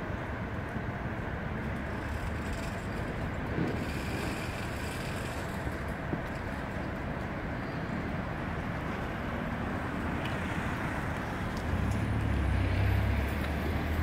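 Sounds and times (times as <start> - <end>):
low engine rumble: 0.0 - 14.0
outdoor city noise: 0.0 - 14.0.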